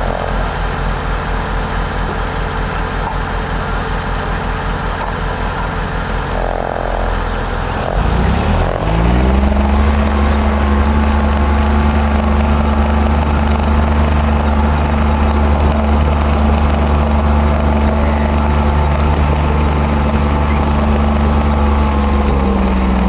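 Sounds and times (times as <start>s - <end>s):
heavy diesel engine revving: 0.0s - 23.0s.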